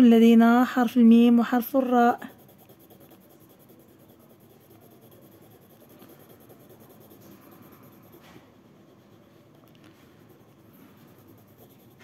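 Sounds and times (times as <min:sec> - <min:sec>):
pencil scratching on paper: 0:01.2 - 0:12.0.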